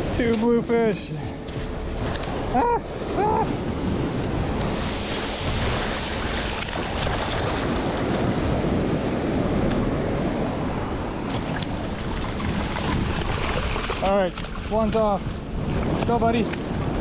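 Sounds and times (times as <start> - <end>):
surf washing over sand: 0.0 - 17.0
wind buffeting microphone: 0.0 - 17.0.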